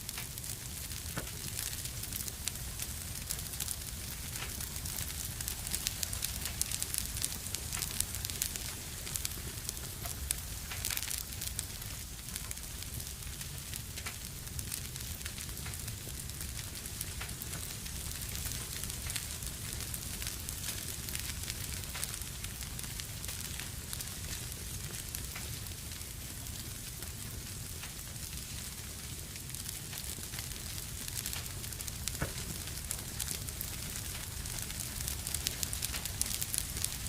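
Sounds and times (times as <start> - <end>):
fire crackling and popping: 0.0 - 37.0
fire hiss and rumble: 0.0 - 37.0.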